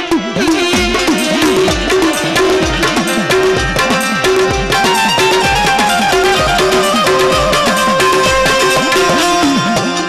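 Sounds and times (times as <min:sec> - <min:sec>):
held folk melody: 0:00.1 - 0:10.0
hand drum with bending pitch: 0:00.4 - 0:10.0.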